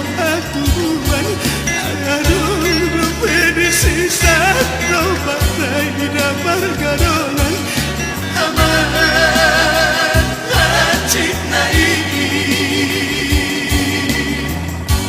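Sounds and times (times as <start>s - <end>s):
bass accompaniment: 0.0s - 15.0s.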